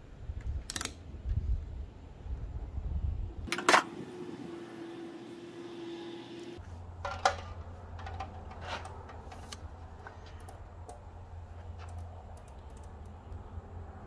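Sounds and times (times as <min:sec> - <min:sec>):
steady low hum: 0:01.1 - 0:14.0.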